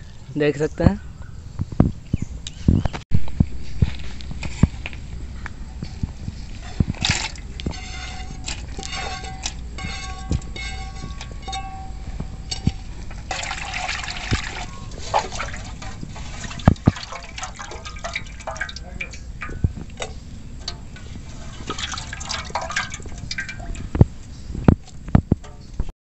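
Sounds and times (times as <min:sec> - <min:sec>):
water sloshing and splashing: 0:03.3 - 0:25.9.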